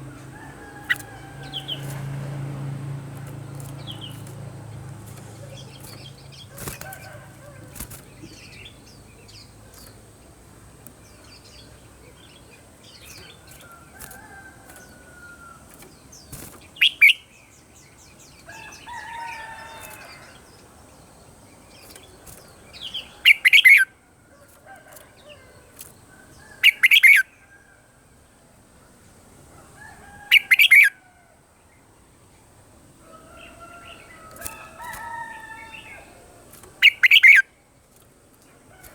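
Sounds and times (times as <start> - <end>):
bulbuls singing: 0.0 - 27.5, 28.5 - 31.0, 31.6 - 38.9.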